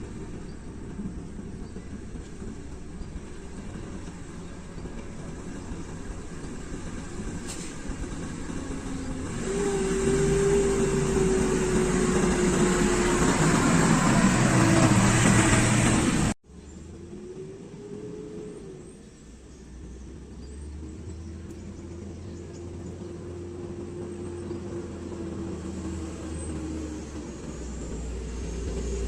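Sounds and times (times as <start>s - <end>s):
heavy machinery engine running: 0.0s - 16.9s, 19.2s - 29.0s.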